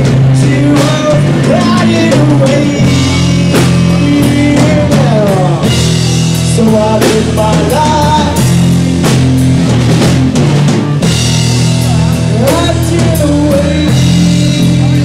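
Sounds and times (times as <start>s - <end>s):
drum kit: 0.0s - 15.0s
instrumental live band: 0.0s - 15.0s.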